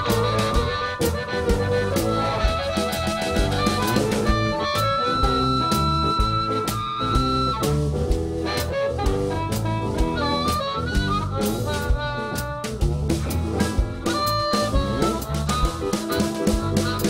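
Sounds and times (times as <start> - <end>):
drum kit: 0.0 - 17.0
electric bass: 0.0 - 17.0
electric guitar: 0.0 - 17.0
harmonica lead: 0.0 - 17.0.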